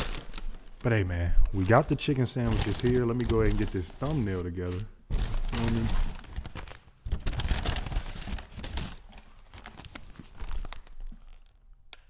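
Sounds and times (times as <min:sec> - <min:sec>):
paper bag rustling and crinkling: 0:00.0 - 0:00.9, 0:01.6 - 0:11.5.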